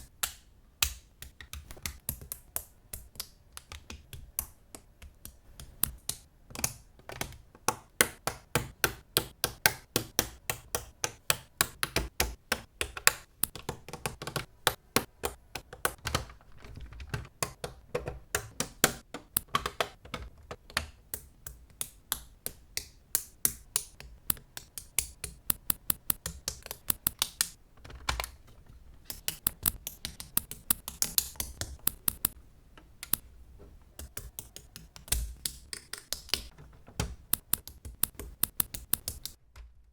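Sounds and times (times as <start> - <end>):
plastic building pieces clicking: 0.0 - 33.3, 33.9 - 39.8.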